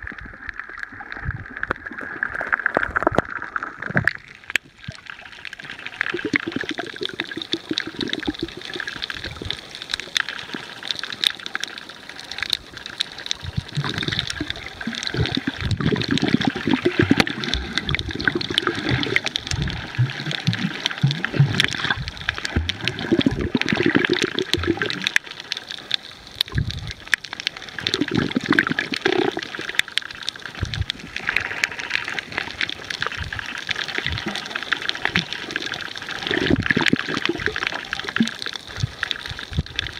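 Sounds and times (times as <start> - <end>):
fine crackle of clicks: 0.0 - 39.9
underwater gurgling and sloshing: 0.0 - 39.9.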